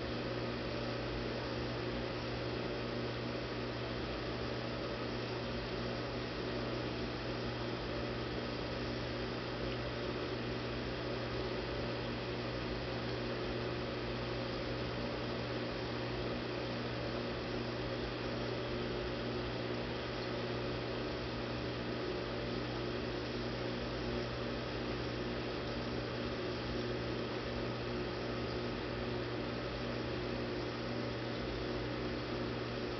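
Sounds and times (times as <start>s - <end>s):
aquarium equipment humming: 0.0s - 32.9s.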